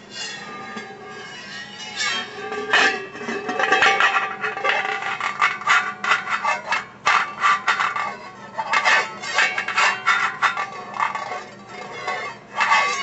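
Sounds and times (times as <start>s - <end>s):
whisk striking metal pot lid: 2.0s - 13.0s.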